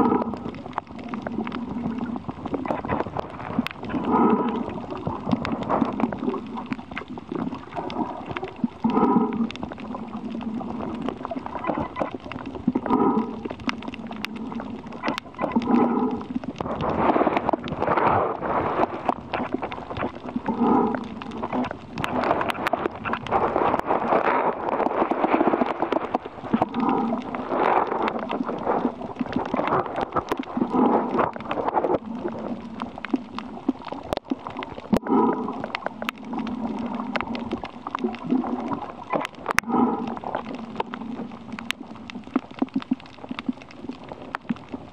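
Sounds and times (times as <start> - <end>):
sharp underwater clicks: 0.0 - 44.9
underwater bubbling exhalations: 0.0 - 44.9.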